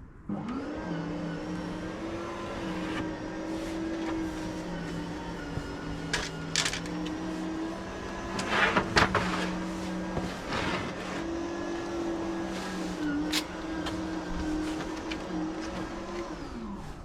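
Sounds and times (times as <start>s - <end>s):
scraping or rustling: 3.2s - 17.0s.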